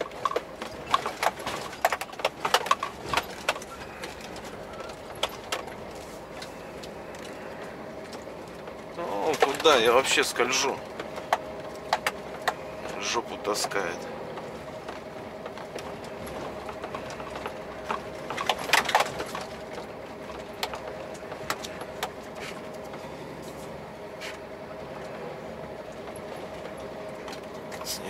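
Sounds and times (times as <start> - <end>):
rattling: 0.0 - 23.1
truck diesel engine running: 0.0 - 28.0.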